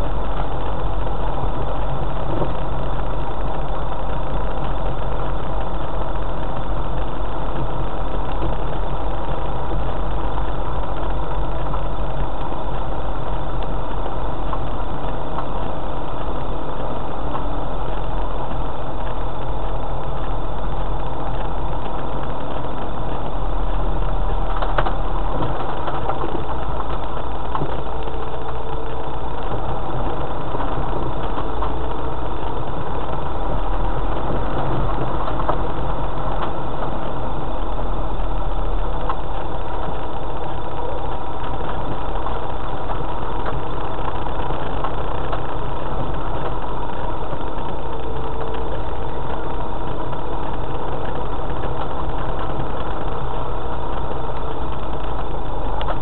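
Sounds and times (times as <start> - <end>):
vehicle engine at low revs: 0.0 - 56.0.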